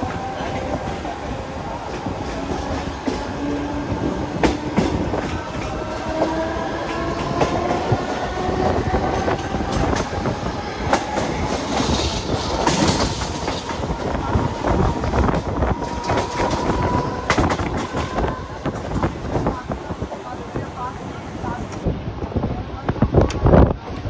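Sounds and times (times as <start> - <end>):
train wheel and rail rumble: 0.0 - 24.0.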